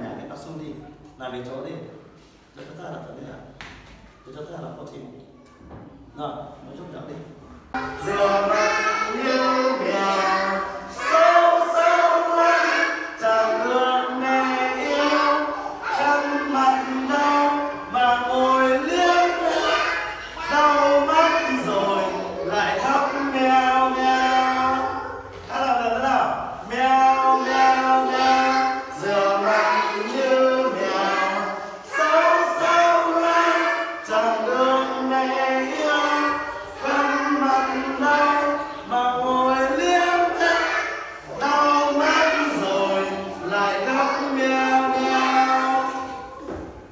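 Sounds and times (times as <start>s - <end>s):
children and man singing: 0.0s - 46.9s.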